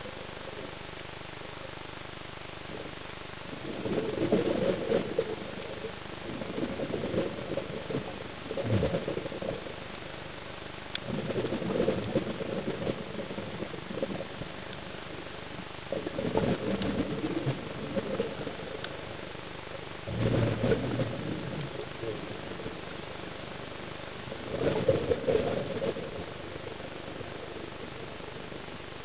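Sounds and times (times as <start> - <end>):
steady low hiss: 0.0 - 29.0.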